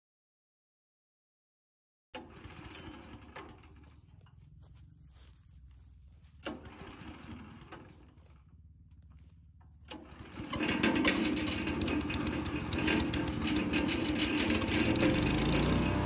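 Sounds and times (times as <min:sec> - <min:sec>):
wood chipper engine drone: 0:02.2 - 0:16.0.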